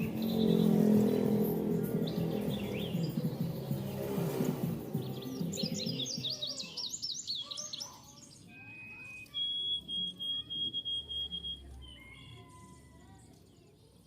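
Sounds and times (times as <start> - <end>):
finches chirping: 0.0 - 13.5.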